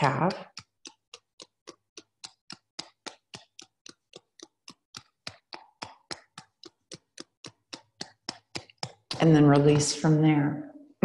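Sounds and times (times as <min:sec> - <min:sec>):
rubber balls tapping: 0:00.0 - 0:10.4.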